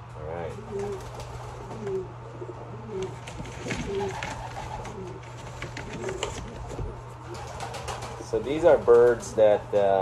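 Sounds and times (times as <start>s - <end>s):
pigeons cooing: 0.3s - 10.0s.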